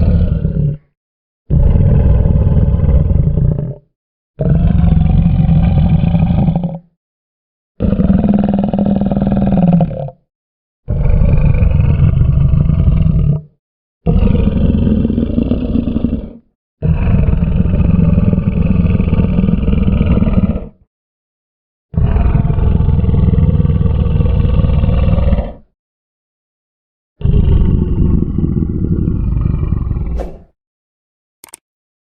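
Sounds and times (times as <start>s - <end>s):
crocodile growling: 0.0s - 6.9s, 7.8s - 10.3s, 10.9s - 20.9s, 22.0s - 25.7s, 27.2s - 30.5s.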